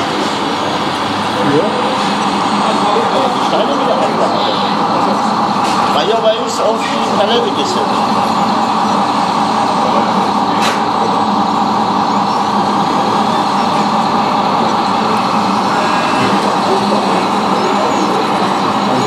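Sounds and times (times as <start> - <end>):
hydraulic pump whirring: 0.0 - 19.0.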